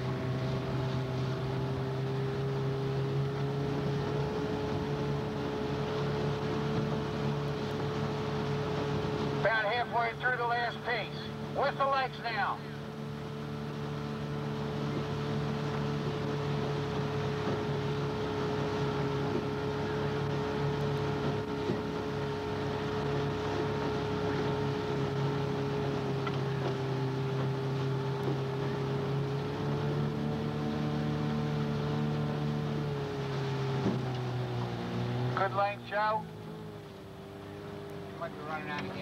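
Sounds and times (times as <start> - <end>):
boat engine running steadily: 0.0 - 39.0.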